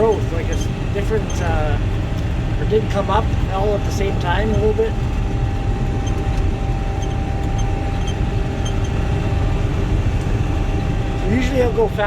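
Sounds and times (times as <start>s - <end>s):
farm machinery engine rumble: 0.0s - 12.0s.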